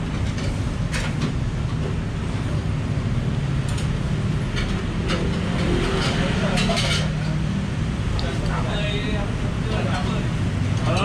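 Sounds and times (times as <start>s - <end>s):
busy eatery rumble: 0.0s - 11.0s.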